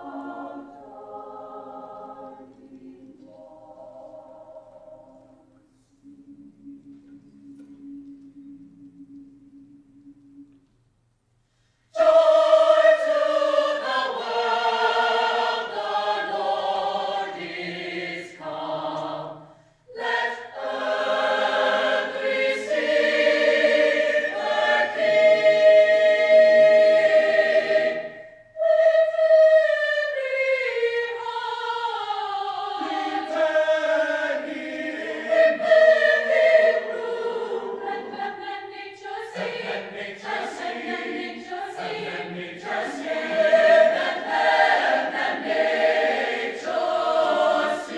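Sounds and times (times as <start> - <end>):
choir singing in harmony: 0.0 - 10.7, 11.9 - 47.9.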